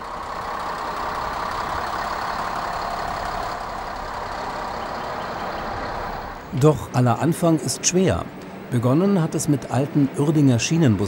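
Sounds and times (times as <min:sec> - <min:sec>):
diesel railcar engine running: 0:00.0 - 0:11.0.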